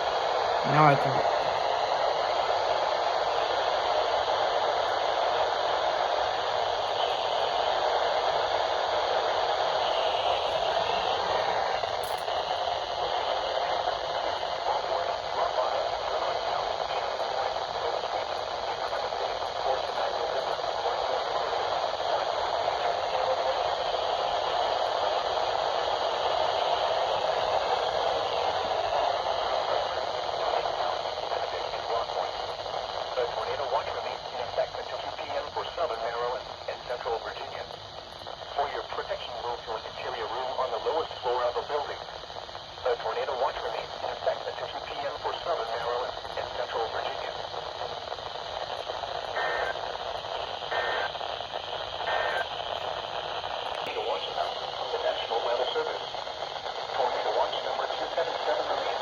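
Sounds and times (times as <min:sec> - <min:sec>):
radio static hiss: 0:00.0 - 0:59.0.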